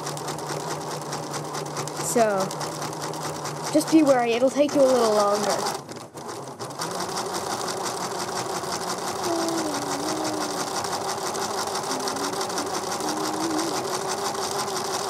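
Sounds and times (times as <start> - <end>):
sewing machine running: 0.0 - 15.0.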